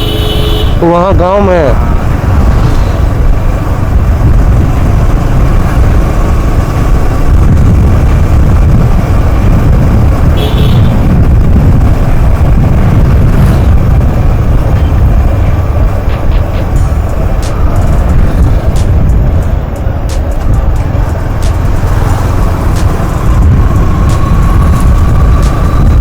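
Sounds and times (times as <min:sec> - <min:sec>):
motorcycle road noise: 0:00.0 - 0:26.0
wind buffeting microphone: 0:00.7 - 0:26.0.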